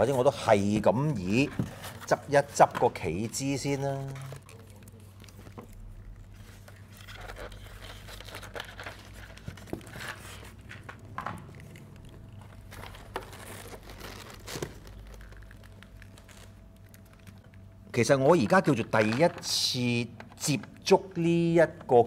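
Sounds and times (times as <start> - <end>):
plastic rustling: 0.0 - 22.0.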